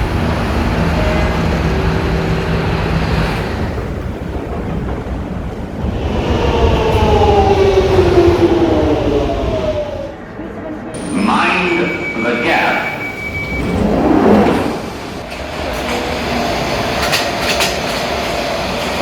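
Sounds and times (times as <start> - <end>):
subway train rumbling: 0.0 - 19.0
train whine: 0.0 - 19.0.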